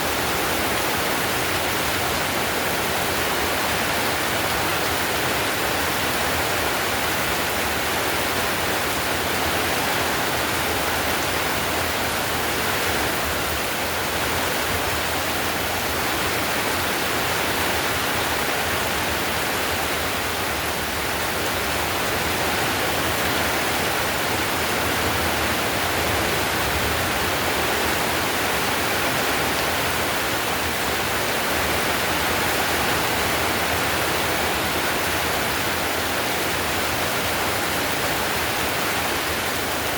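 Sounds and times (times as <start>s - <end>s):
heavy rain on a tiled roof: 0.0s - 39.9s.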